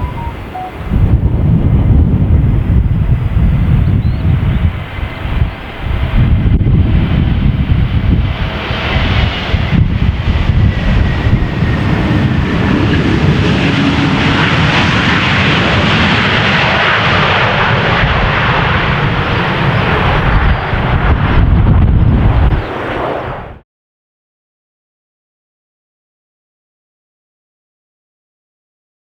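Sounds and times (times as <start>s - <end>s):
jet airliner passing: 0.0s - 23.6s
wind buffeting microphone: 0.0s - 23.6s.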